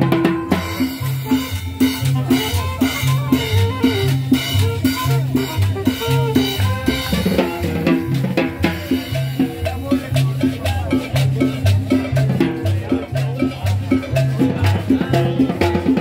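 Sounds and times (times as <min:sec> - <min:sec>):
bass line: 0:00.0 - 0:16.0
drums beating: 0:00.0 - 0:16.0
live dance band playing: 0:00.0 - 0:16.0.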